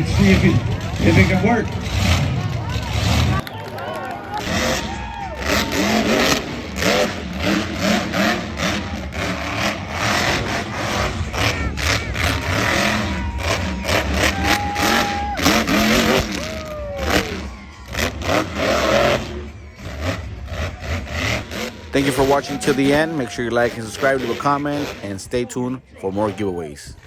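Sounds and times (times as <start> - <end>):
monster truck engine revving: 0.0 - 27.0.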